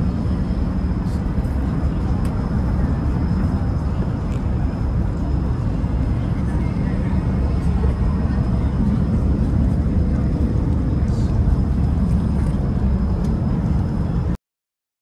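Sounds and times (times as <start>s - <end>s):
ferry engines droning: 0.0s - 14.4s.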